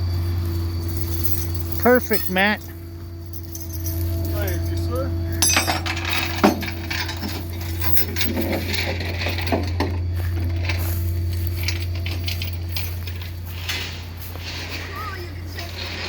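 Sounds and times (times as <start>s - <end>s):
engine idling: 0.0s - 16.0s
metallic clinks and rattles: 0.4s - 16.0s.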